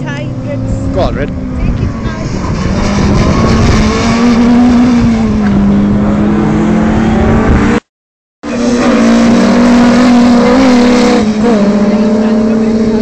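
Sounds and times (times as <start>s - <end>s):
rally car engines running hard: 0.0s - 13.0s.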